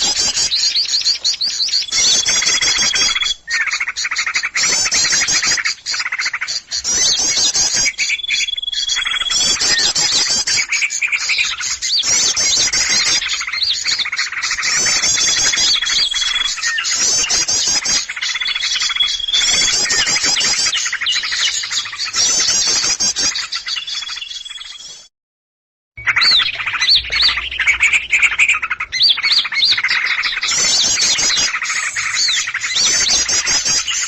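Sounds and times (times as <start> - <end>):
songbirds chirping and twittering: 0.0 - 25.1, 26.0 - 34.0.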